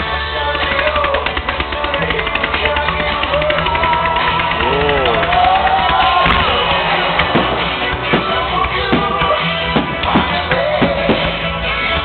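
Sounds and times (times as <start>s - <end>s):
music over loudspeakers: 0.0s - 12.0s
firework bangs: 0.2s - 12.0s.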